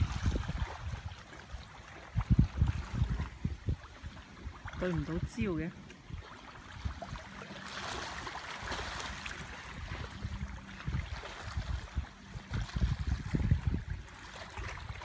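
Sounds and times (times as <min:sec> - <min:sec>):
small waves lapping on shore: 0:00.0 - 0:15.0
wind buffeting microphone: 0:00.0 - 0:15.0.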